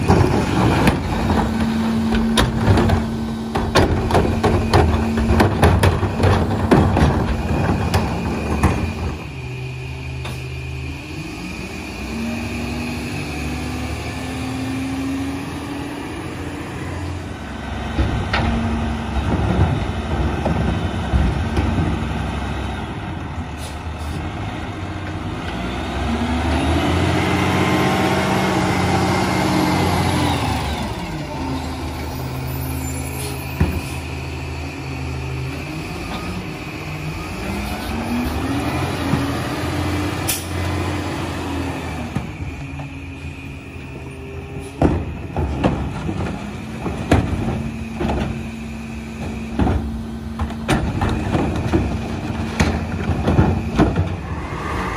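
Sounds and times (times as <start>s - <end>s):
garbage truck diesel engine revving: 0.0s - 54.9s.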